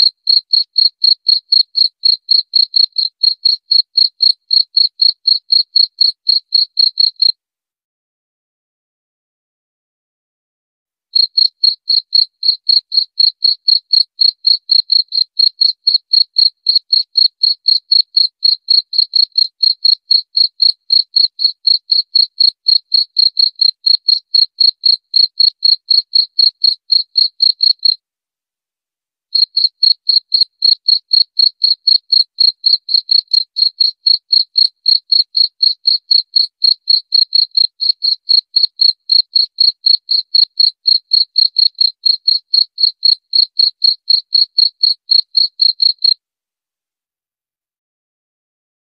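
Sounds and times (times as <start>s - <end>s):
cricket chirping: 0.0s - 7.3s, 11.2s - 28.0s, 29.4s - 46.2s.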